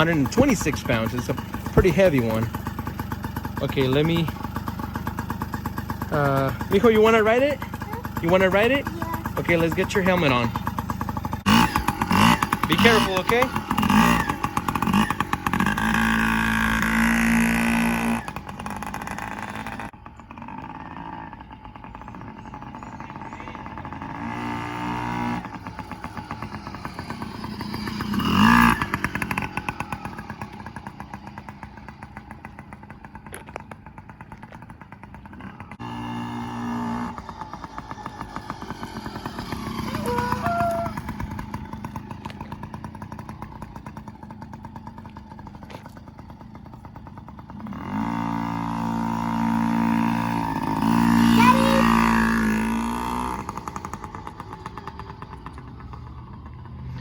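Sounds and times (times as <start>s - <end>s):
dirt bike engine revving: 0.0s - 21.5s, 23.2s - 32.7s, 34.3s - 46.0s, 46.7s - 57.0s.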